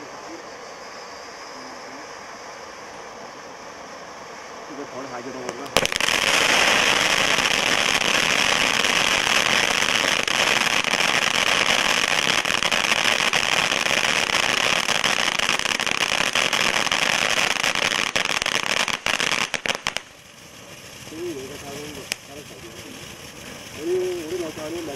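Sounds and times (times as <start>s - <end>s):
firework fountain hissing and crackling: 0.0s - 24.9s.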